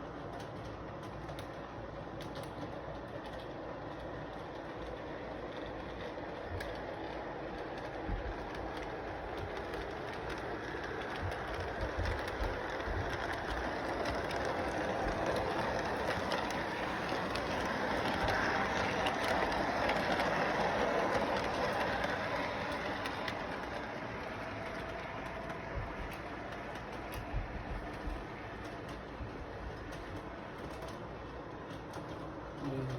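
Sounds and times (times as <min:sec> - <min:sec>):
train clattering on track: 0:00.0 - 0:32.9.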